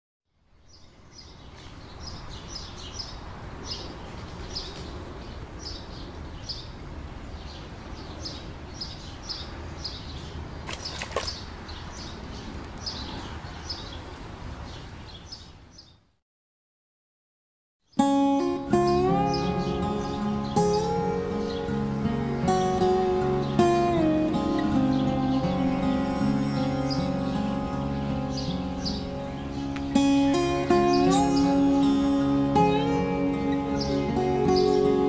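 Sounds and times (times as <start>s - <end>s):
small birds chirping: 0.6s - 16.1s, 17.9s - 35.0s.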